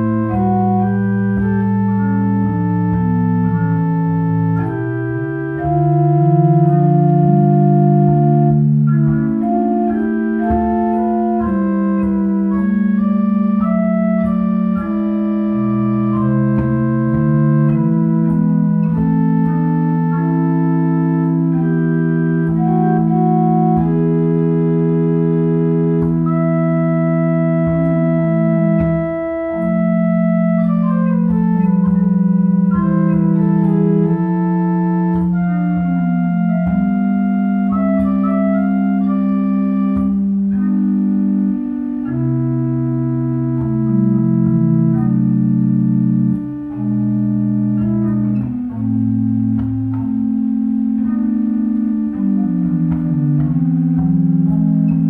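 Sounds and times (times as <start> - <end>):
pipe organ playing slow chords: 0.0 - 55.0.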